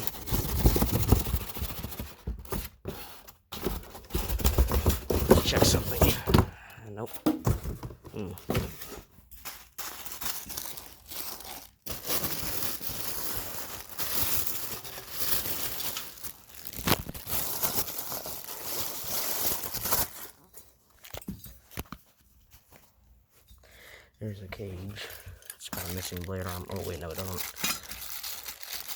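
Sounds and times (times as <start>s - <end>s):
packaging crinkling and rustling: 0.0s - 23.4s, 24.8s - 28.9s.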